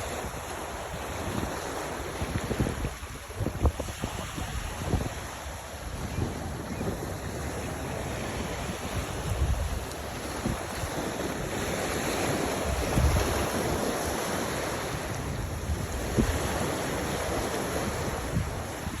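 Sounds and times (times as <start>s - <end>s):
sea water washing: 0.0s - 19.0s
wind buffeting the microphone: 0.0s - 19.0s.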